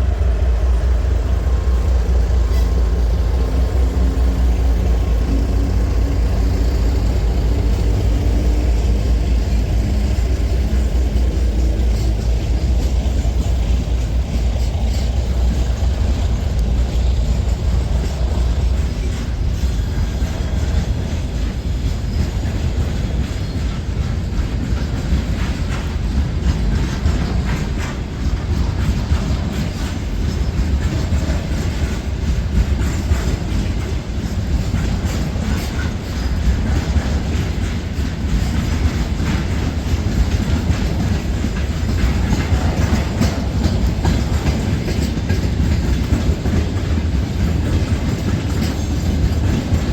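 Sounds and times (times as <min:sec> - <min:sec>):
train rumbling: 0:00.0 - 0:49.9
wheels clicking over rail joints: 0:00.0 - 0:49.9.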